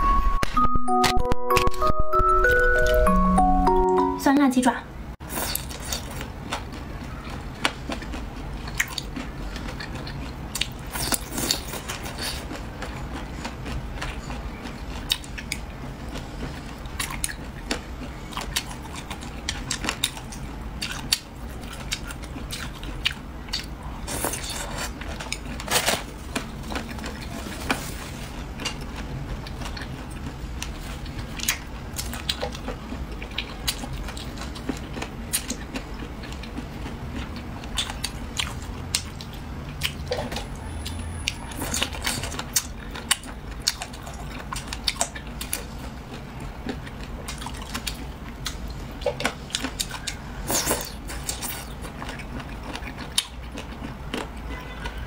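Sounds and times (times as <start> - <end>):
wet chewing and biting: 5.3 - 27.8, 28.4 - 55.0.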